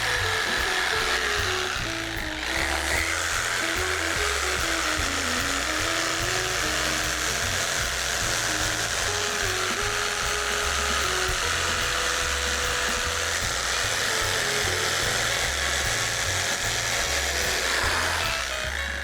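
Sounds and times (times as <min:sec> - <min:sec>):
background music: 0:00.0 - 0:19.0
small electric power tool running: 0:00.0 - 0:19.0.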